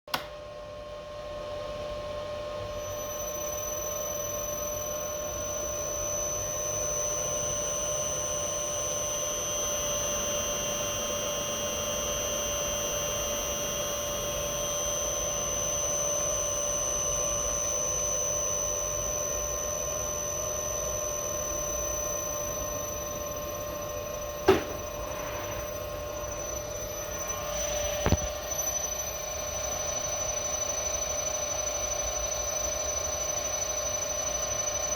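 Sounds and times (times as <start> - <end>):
inverter electrical whine: 0.1 - 34.9.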